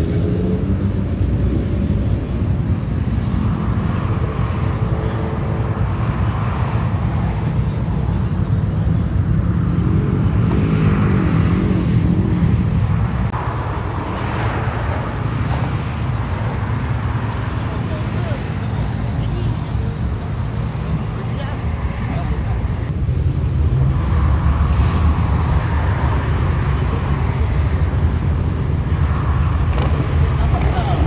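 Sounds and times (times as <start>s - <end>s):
vehicle engines rumbling: 0.0s - 31.0s.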